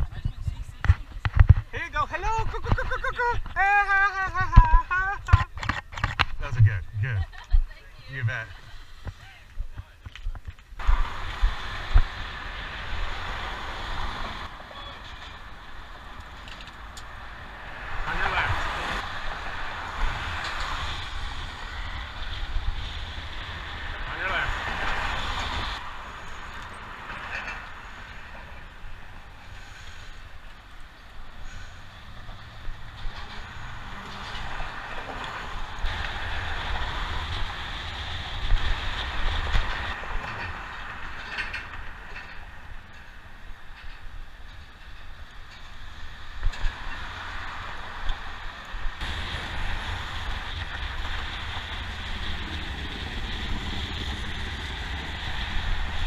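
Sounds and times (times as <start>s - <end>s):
road traffic rumble: 0.0s - 56.0s
wind: 0.0s - 56.0s.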